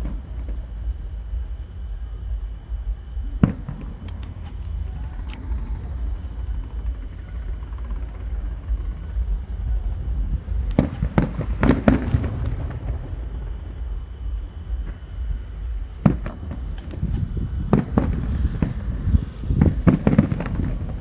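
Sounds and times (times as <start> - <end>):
fireworks bangs: 0.0 - 21.0
fireworks crackles: 0.0 - 21.0
steady low rumble: 0.0 - 21.0.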